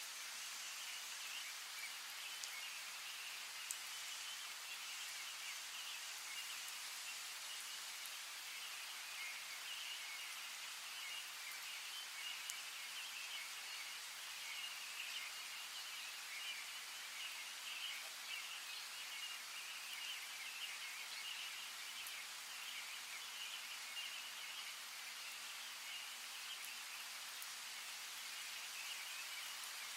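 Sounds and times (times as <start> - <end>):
running water hiss: 0.0 - 29.9.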